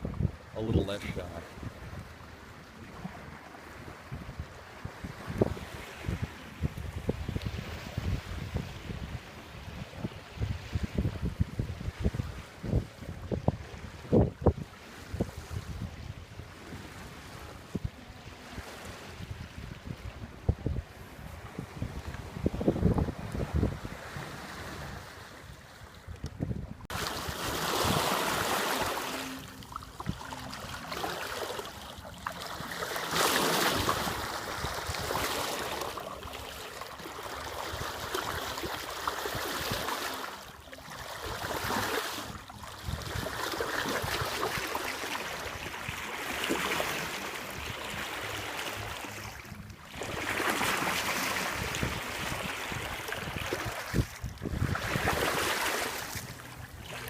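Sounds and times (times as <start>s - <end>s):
water rushing along hull: 0.0s - 57.0s
wind on microphone: 0.0s - 57.0s.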